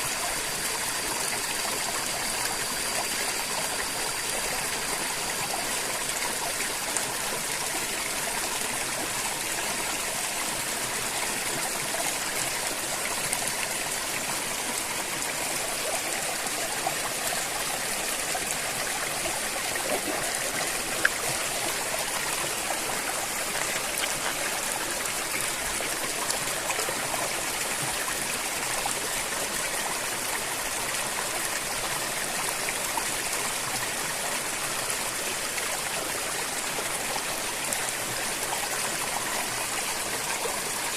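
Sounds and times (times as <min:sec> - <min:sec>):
river water over stones: 0:00.0 - 0:40.9.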